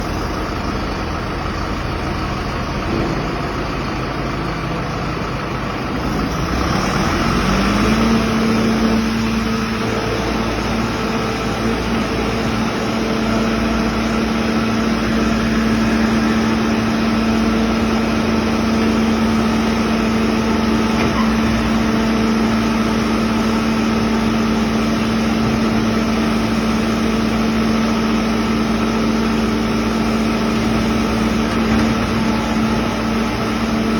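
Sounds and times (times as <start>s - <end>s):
backhoe diesel engine running: 0.0s - 33.9s.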